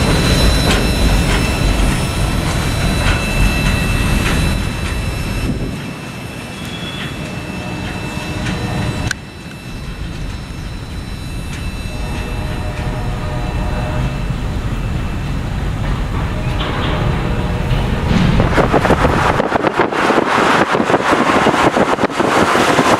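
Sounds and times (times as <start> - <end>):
freight train rumbling on rails: 0.0 - 22.9.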